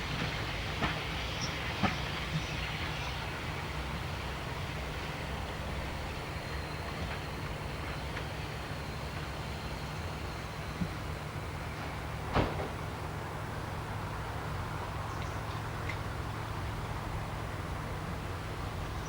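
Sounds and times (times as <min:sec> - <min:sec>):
diesel locomotive idling: 0:00.0 - 0:19.0.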